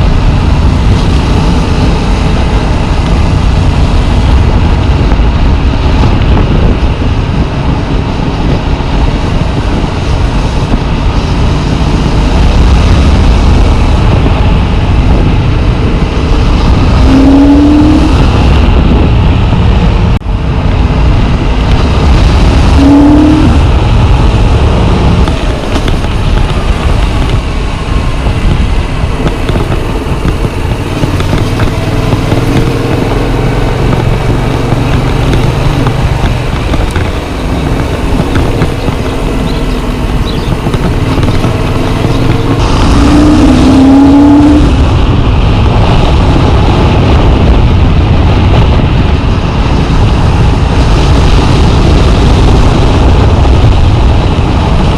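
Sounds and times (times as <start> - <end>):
motorcycle engine running: 0.0 - 54.9
wind rushing on microphone: 0.0 - 54.9.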